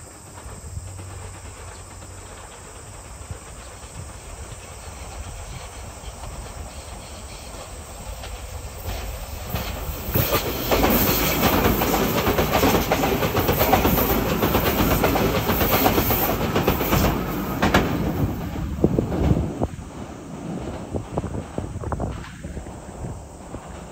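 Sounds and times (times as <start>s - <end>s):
electric train passing: 0.0s - 23.9s
wheels clattering over rail joints: 0.0s - 23.9s.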